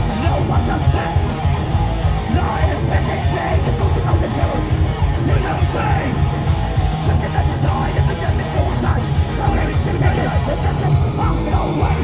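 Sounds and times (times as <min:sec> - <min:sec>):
bass guitar: 0:00.0 - 0:12.0
distorted electric guitars: 0:00.0 - 0:12.0
fast pounding drums: 0:00.0 - 0:12.0.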